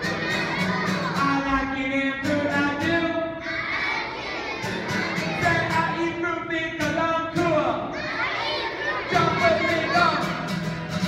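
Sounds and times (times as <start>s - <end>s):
children singing together: 0.0s - 6.4s, 7.6s - 10.8s
strummed acoustic guitar: 0.0s - 11.0s.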